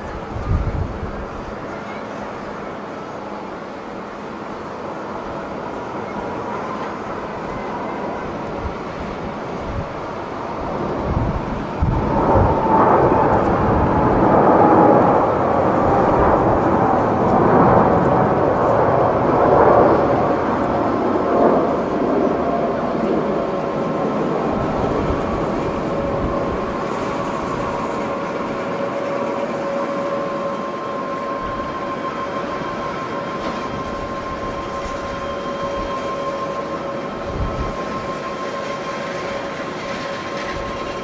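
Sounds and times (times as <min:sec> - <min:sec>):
jet engines at takeoff: 0:00.0 - 0:41.0.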